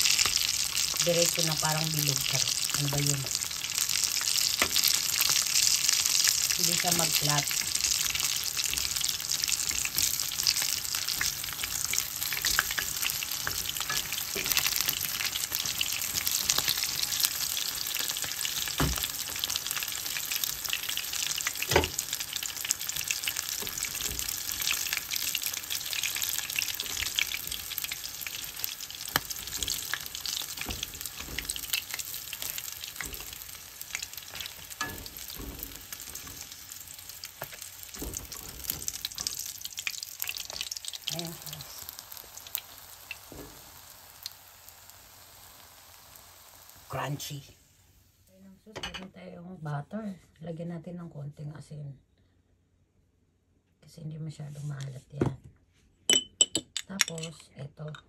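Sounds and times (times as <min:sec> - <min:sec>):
shrimp deep-frying in oil: 0:00.0 - 0:49.0.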